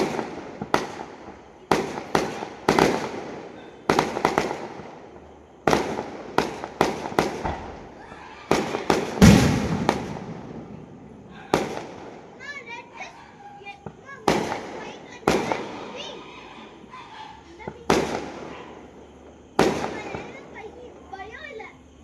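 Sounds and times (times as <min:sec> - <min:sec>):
fireworks exploding: 0:00.0 - 0:12.7, 0:13.8 - 0:16.1, 0:17.8 - 0:20.5.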